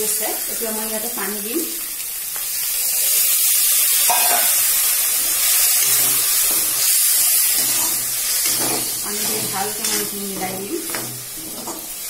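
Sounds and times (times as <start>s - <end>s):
water poured into hot oil sizzling: 0.0s - 10.2s.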